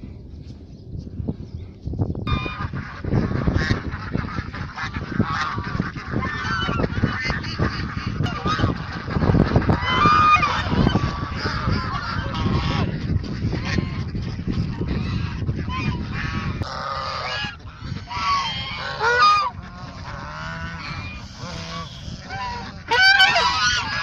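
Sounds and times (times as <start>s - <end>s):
geese honking: 2.3s - 24.0s.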